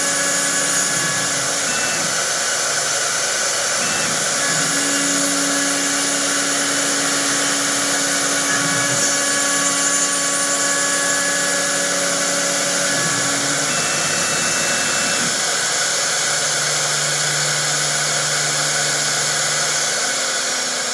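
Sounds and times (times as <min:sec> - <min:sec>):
wood lathe hiss and whine: 0:00.0 - 0:20.9.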